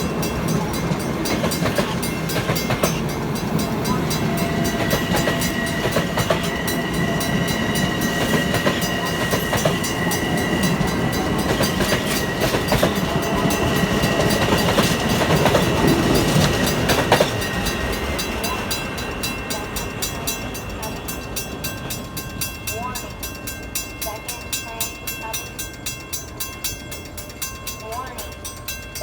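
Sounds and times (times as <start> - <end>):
high-pitched train whine: 0.0 - 29.0
train wheels clicking on rails: 0.0 - 29.0.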